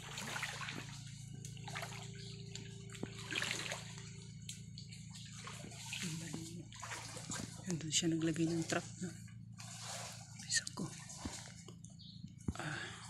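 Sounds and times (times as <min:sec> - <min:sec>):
creek water splashing: 0:00.0 - 0:12.0
steady low hum: 0:00.0 - 0:13.0.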